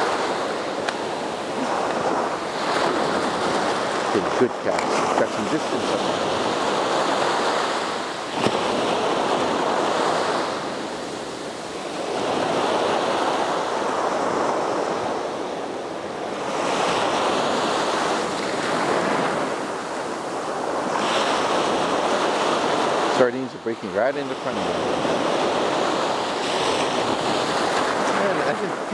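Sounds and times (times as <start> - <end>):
ocean waves breaking on sand: 0.0 - 28.9.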